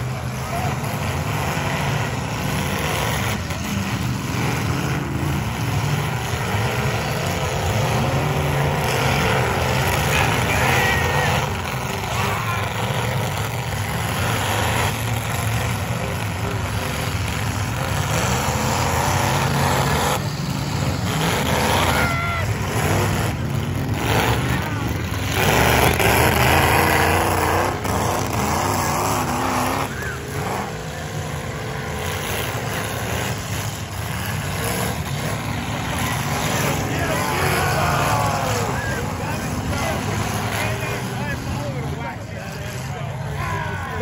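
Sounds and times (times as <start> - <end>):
car engines running: 0.0 - 44.0.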